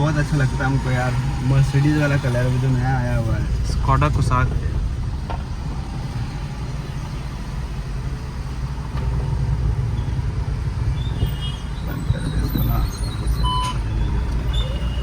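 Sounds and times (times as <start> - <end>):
car interior rumble: 0.0 - 15.0.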